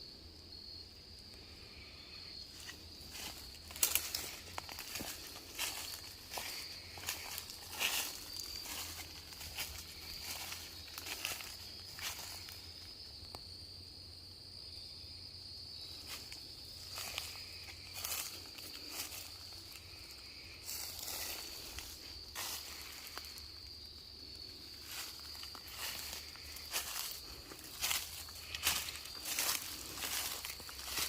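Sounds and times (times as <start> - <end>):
high-pitched insect drone: 0.0 - 31.0
footsteps crunching on forest floor: 1.4 - 13.5, 15.5 - 31.0.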